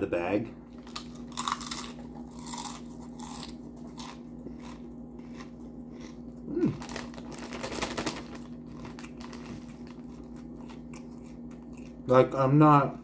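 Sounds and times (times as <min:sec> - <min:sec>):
background hum: 0:00.0 - 0:13.0
chip bag crinkling: 0:00.7 - 0:12.0
chips being chewed: 0:00.8 - 0:12.2.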